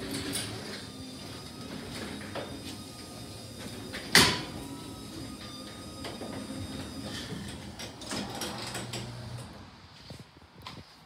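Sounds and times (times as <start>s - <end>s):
garage door rolling up: 0.0s - 10.0s.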